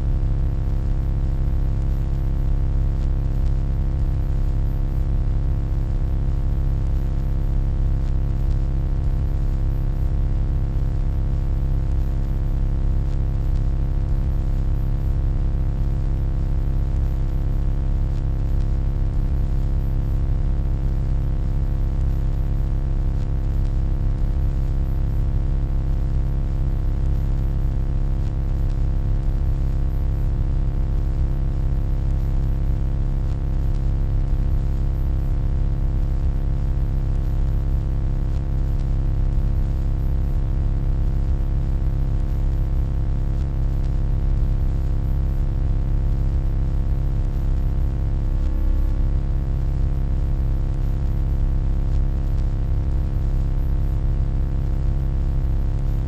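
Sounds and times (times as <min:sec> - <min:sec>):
electronic hum: 0:00.0 - 0:46.7, 0:47.3 - 0:49.9, 0:50.5 - 0:53.4.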